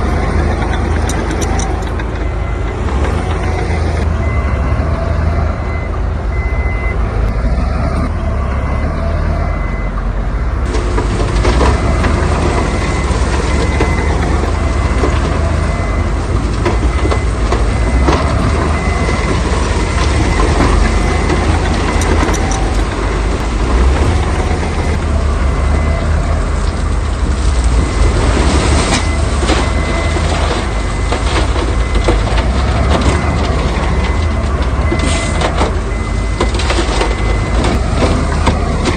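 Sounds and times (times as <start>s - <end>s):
knocks and clatter: 0.0s - 4.1s, 10.6s - 38.9s
diesel machinery engine rumble: 0.0s - 38.9s
reversing alarm beeping: 0.0s - 38.9s.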